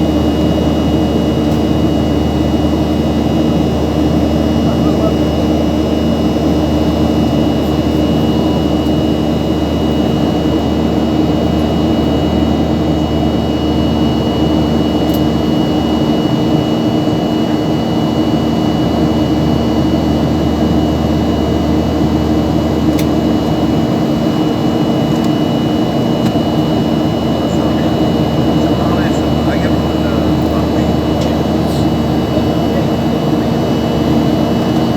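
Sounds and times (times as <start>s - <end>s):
vehicle cabin engine drone: 0.0s - 34.9s.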